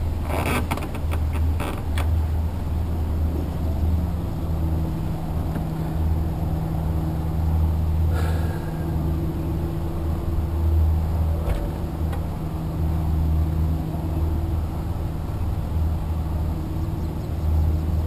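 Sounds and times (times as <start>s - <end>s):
low hum: 0.0s - 18.0s
motorboat engine running: 0.0s - 18.0s.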